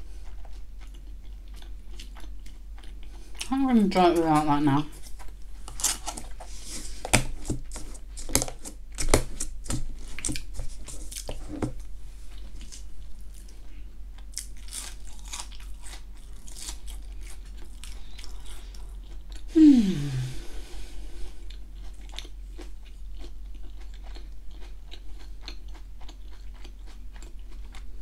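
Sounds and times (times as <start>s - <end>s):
crunching and chewing onion ring: 0.0s - 19.5s, 21.4s - 28.0s.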